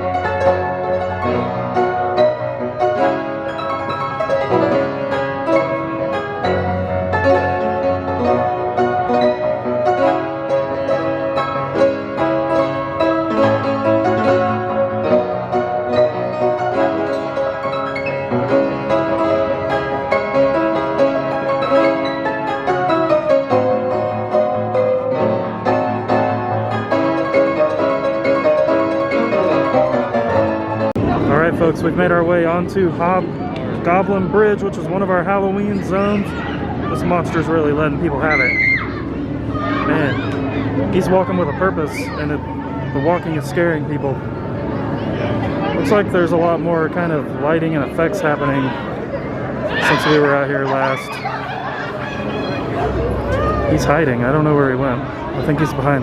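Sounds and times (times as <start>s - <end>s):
self-playing piano tune: 0.0s - 56.0s.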